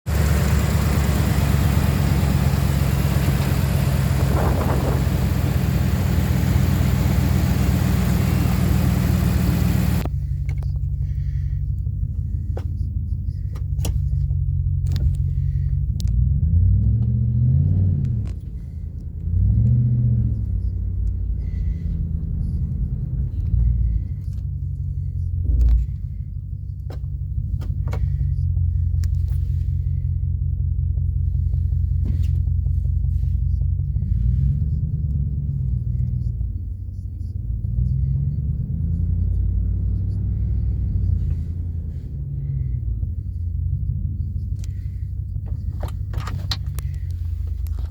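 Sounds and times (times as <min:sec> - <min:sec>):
pickup engine idling and revving: 0:00.0 - 0:47.9.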